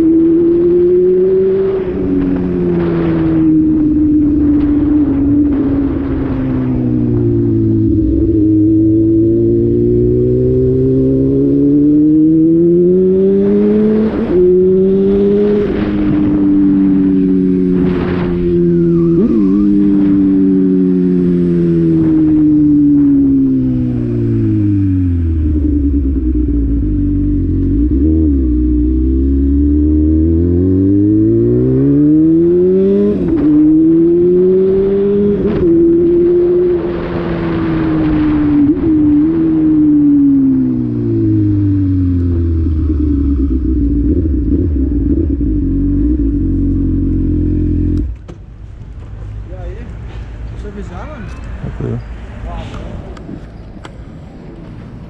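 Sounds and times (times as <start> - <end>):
vehicle engine accelerating hard: 0.0 - 48.2.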